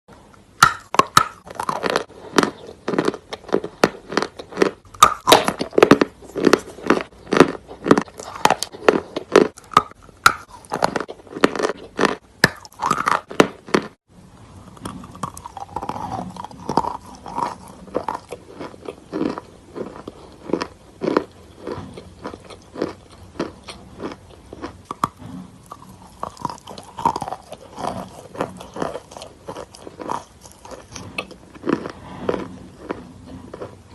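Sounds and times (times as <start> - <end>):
chalk being bitten and chewed: 0.6 - 14.0, 14.8 - 33.8.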